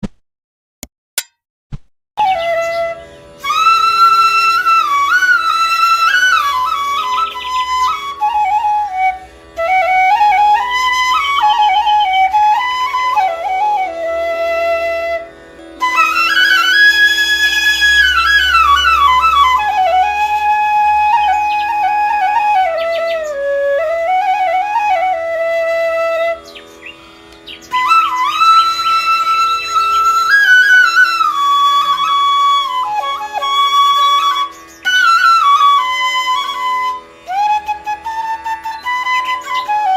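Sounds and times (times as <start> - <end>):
flute playing slow melody: 2.2 - 39.9.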